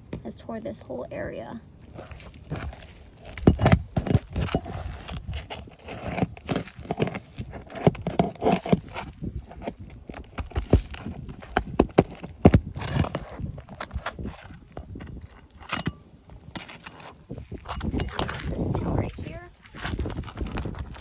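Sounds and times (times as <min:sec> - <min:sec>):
metal scraping: 0:01.8 - 0:21.0.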